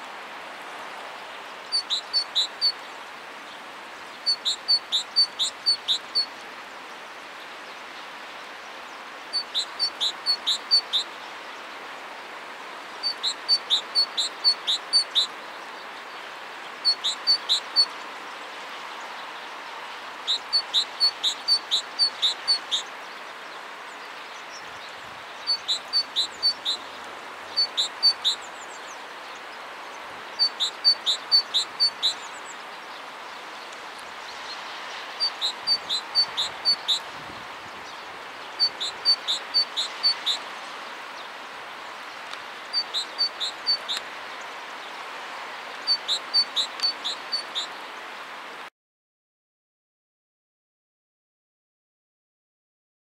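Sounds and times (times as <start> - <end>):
steady background hiss: 0.0 - 48.7.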